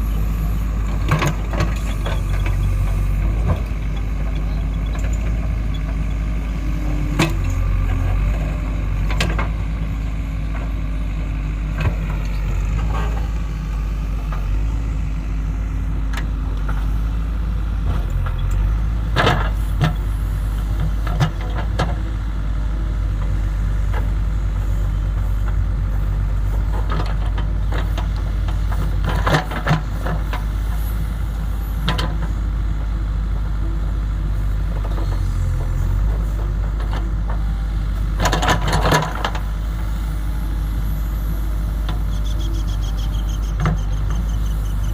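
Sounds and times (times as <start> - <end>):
backhoe diesel engine running: 0.0 - 44.9.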